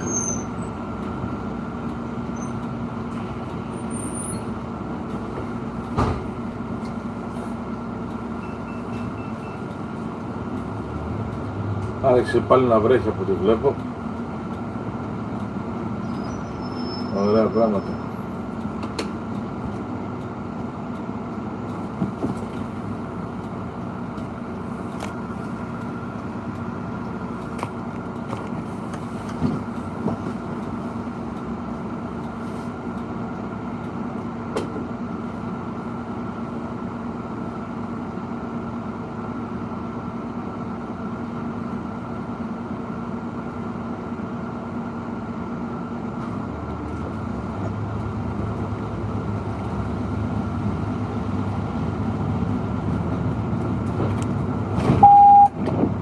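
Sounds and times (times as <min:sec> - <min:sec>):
vehicle engine idling: 0:00.0 - 0:55.4.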